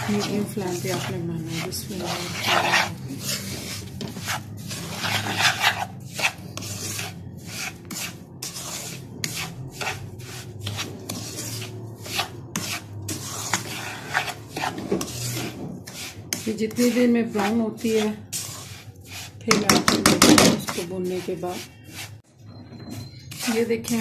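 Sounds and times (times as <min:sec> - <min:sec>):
spoon scraping a pan: 0:00.0 - 0:24.0.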